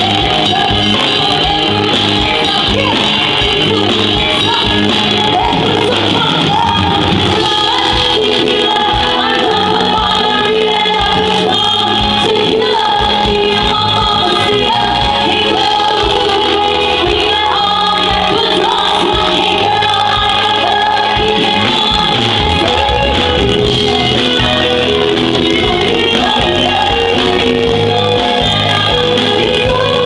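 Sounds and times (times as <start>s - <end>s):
live band playing pop music: 0.0s - 30.0s
women singing together: 0.0s - 30.0s.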